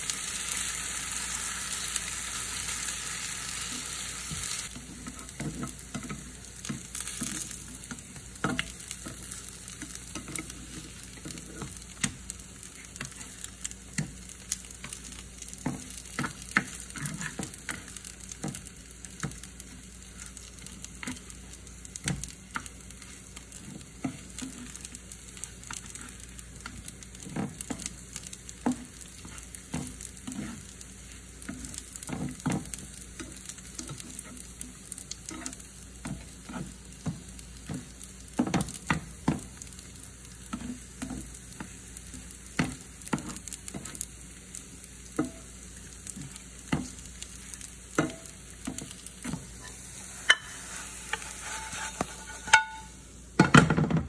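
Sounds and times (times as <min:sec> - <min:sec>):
potato pancakes sizzling in a pan: 0:00.0 - 0:53.8
spatula knocking and scraping a pan: 0:03.7 - 0:44.2, 0:45.1 - 0:54.0.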